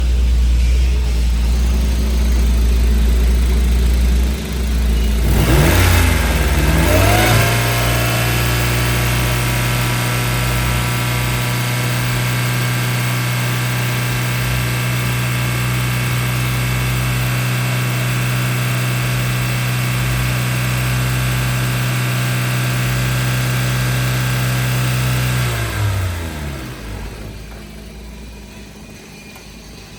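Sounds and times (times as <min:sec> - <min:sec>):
car engine starting and idling: 0:00.0 - 0:29.9.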